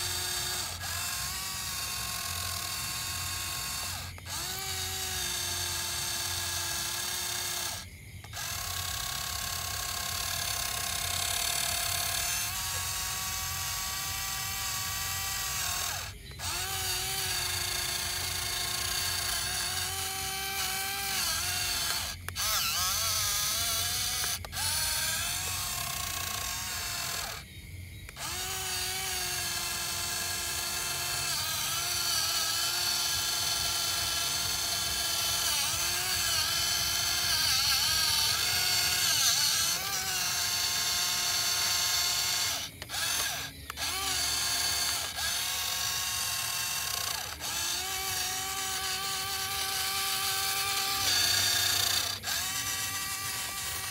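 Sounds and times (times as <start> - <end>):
small electric motor whining: 0.0 - 53.9.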